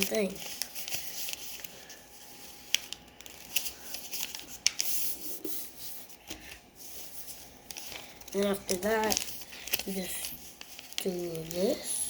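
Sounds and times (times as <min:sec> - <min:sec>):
paper crackles: 0:00.0 - 0:12.0.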